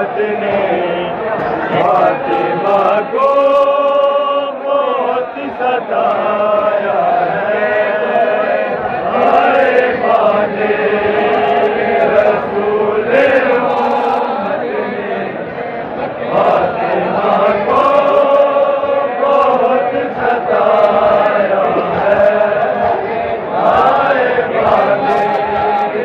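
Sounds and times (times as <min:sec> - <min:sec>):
crowd of men chanting: 0:00.0 - 0:26.0.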